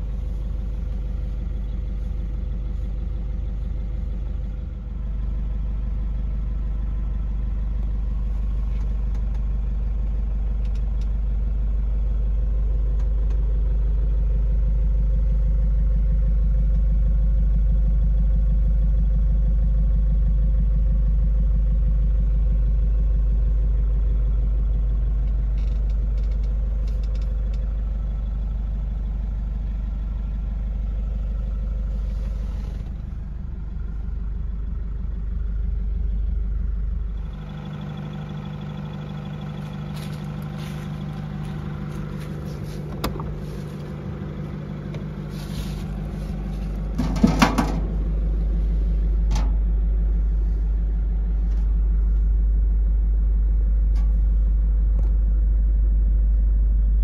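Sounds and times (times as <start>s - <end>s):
diesel engine running at low revs: 0.0s - 57.0s.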